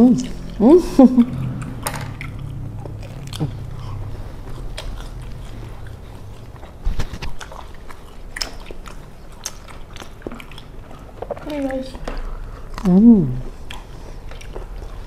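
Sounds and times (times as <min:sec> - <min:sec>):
people chewing crunchy snacks: 0:00.0 - 0:15.0.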